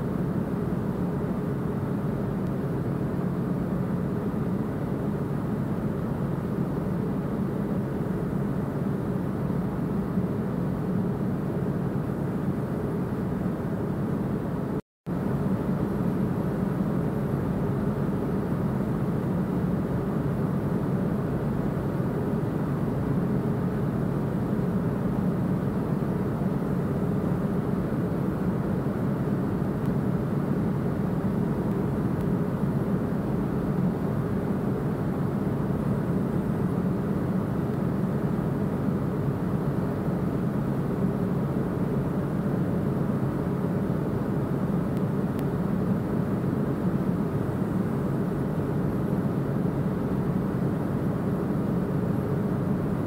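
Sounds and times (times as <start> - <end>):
ship engine room drone: 0.0 - 53.0.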